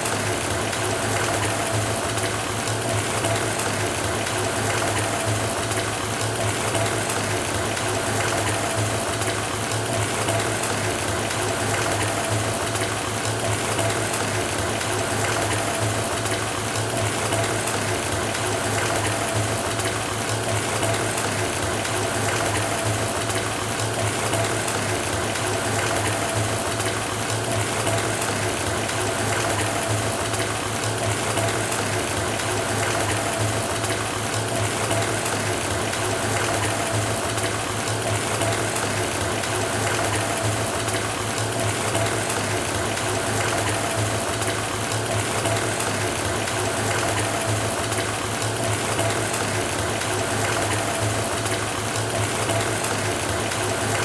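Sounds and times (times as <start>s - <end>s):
faucet water running into tub: 0.0s - 54.0s.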